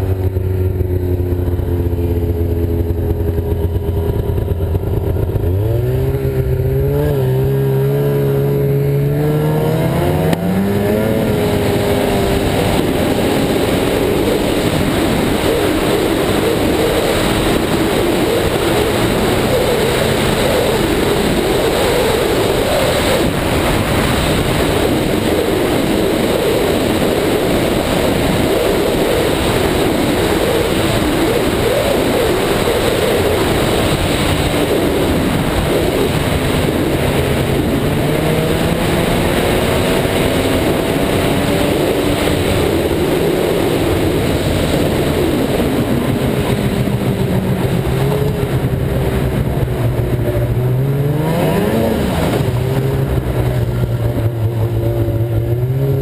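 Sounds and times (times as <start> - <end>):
rushing noise: 0.0 - 56.0
snowmobile engine accelerating: 0.0 - 56.0.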